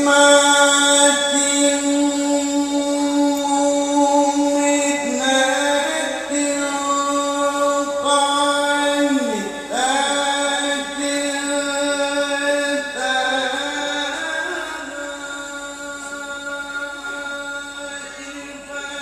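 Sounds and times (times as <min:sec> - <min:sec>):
man reciting melodically over loudspeakers: 0:00.0 - 0:19.0.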